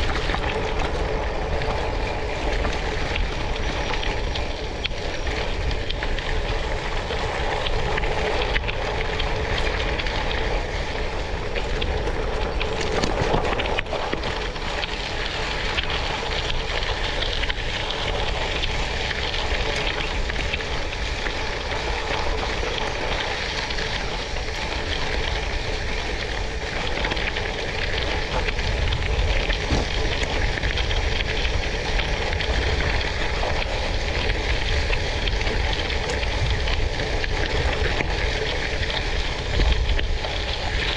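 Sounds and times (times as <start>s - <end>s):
tyres rolling over gravel: 0.0s - 40.9s.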